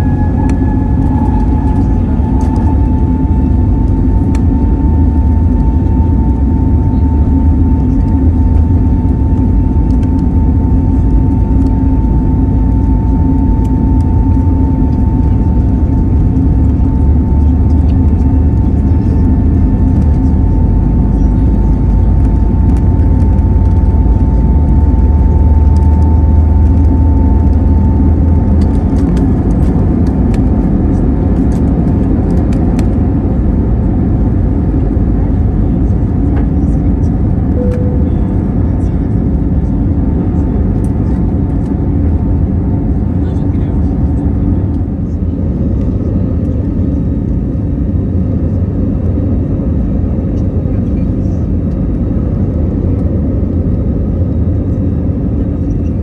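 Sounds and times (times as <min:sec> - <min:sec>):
high jet fan whine: 0:00.0 - 0:56.0
loud low engine rumble: 0:00.0 - 0:56.0.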